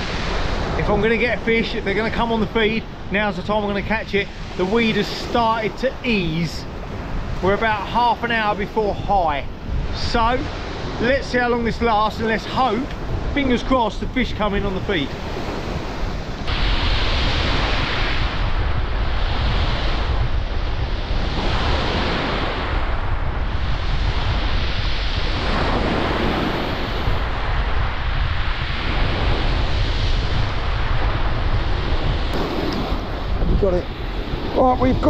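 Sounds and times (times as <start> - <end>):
waves breaking on shore: 0.0 - 35.0
wind buffeting microphone: 0.0 - 35.0.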